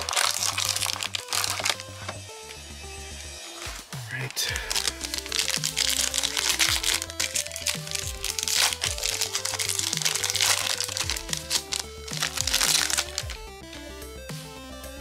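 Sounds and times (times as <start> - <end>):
plastic packaging crinkling: 0.0 - 2.2, 3.4 - 13.5
music with repeating bass: 0.0 - 15.0.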